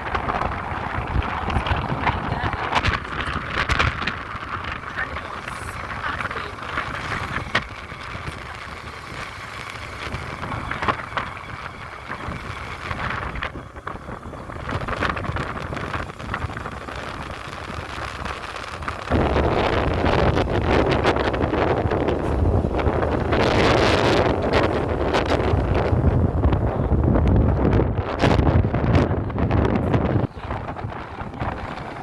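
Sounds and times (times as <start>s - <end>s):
vehicle rumble on road: 0.0s - 32.0s
wind buffeting microphone: 0.0s - 32.0s.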